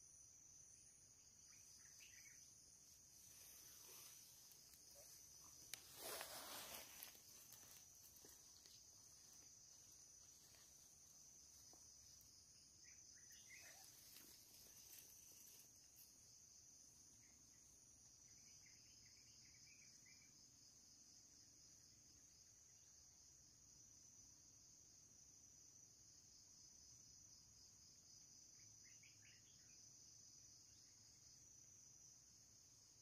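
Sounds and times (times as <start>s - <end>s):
faint insect chirps: 0.0s - 33.0s.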